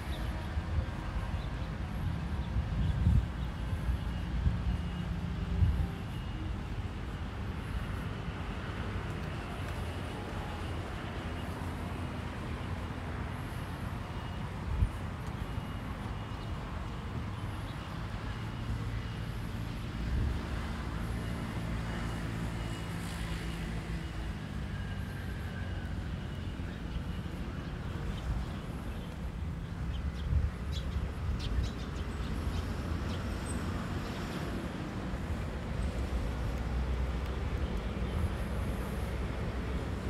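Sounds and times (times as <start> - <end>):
vehicle engines rumbling by: 0.0 - 40.0.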